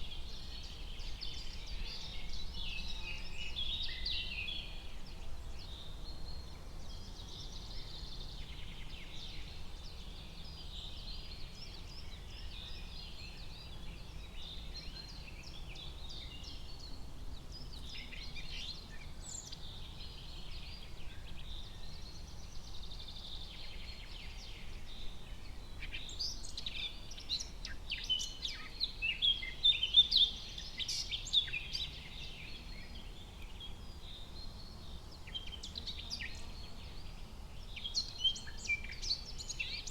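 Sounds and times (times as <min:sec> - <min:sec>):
small birds chirping: 0:06.9 - 0:39.9.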